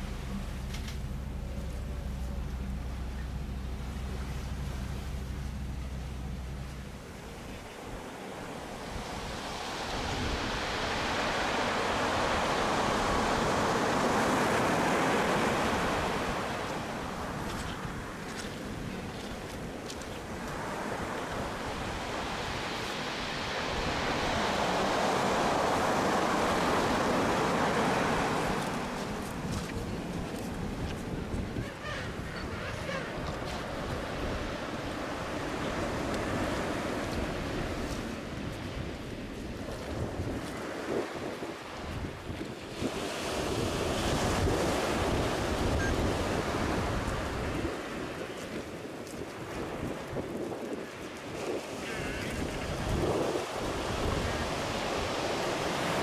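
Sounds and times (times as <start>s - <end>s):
surf washing up a beach: 0.0s - 56.0s
wind buffeting microphone: 0.0s - 56.0s.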